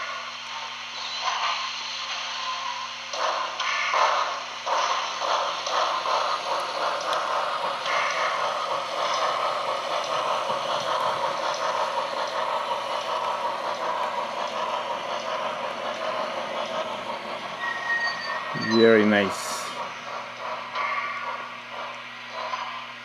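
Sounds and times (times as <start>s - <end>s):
model train running on rails: 0.0s - 23.0s.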